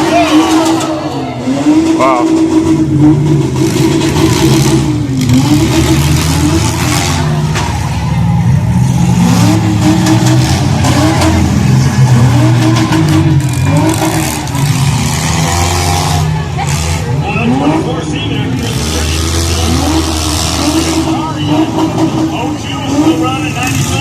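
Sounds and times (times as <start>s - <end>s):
car engines revving loudly: 0.0s - 24.0s.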